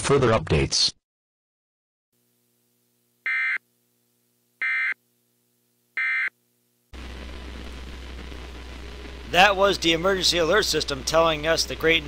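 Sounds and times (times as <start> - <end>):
low hum with hiss: 2.2 - 12.0.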